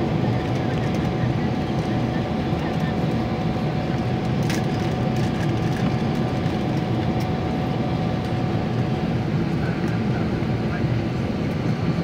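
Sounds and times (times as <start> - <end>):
aircraft cabin engine rush: 0.0 - 12.0.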